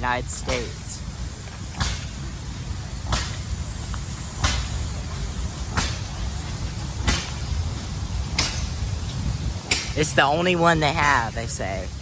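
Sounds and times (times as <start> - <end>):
steam engine puffing: 0.0 - 12.0.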